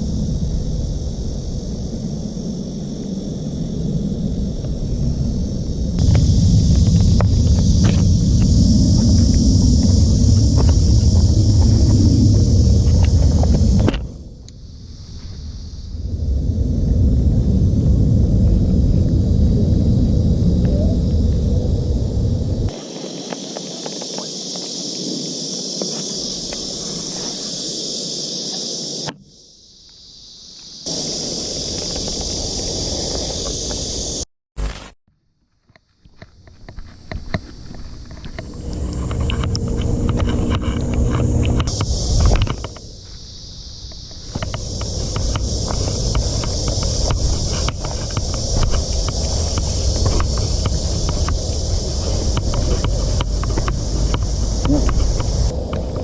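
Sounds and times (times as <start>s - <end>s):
wind buffeting microphone: 0.0s - 14.8s, 15.5s - 27.6s, 36.7s - 56.0s
steady high hiss: 0.0s - 34.9s, 37.0s - 56.0s.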